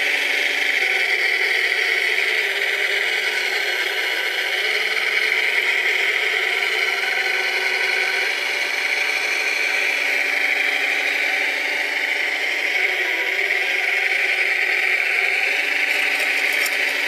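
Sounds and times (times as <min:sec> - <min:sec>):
toy loader motors whirring: 0:00.0 - 0:17.0.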